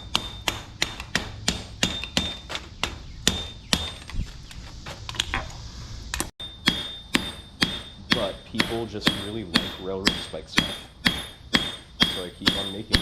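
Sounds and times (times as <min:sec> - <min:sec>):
hammer striking steel on anvil: 0:00.0 - 0:04.0, 0:06.4 - 0:13.0.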